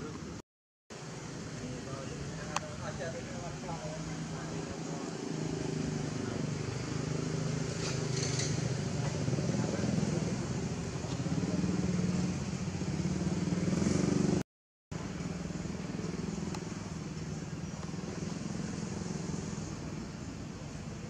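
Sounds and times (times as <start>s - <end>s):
motor vehicle engine hum: 1.0s - 21.0s.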